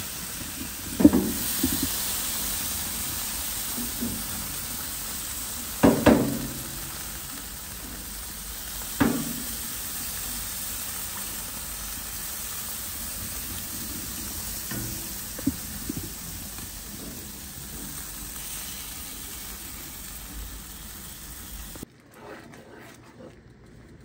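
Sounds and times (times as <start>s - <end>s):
food sizzling in a hot pan: 0.0s - 21.8s.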